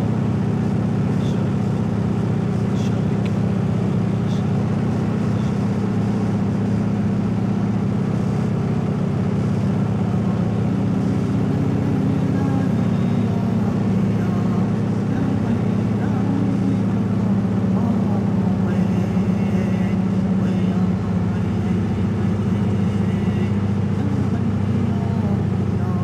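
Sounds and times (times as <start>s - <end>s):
propeller plane engine drone: 0.0s - 26.0s.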